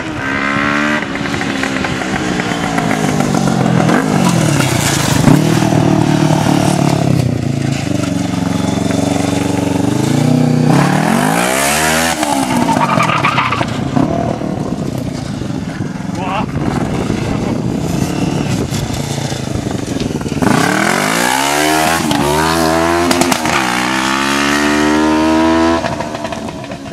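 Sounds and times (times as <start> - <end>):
lawnmower engine revving: 0.2 - 14.2, 17.3 - 26.4.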